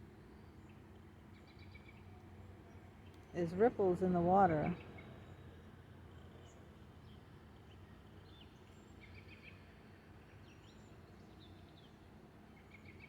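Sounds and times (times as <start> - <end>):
low background hum: 1.1 - 13.0.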